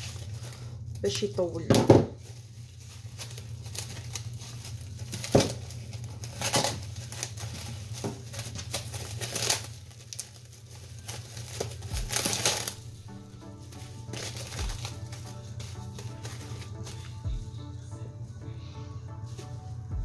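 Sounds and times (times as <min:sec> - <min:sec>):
cling film crinkling: 0:00.0 - 0:01.6, 0:02.2 - 0:17.3
steady low hum: 0:00.0 - 0:20.0.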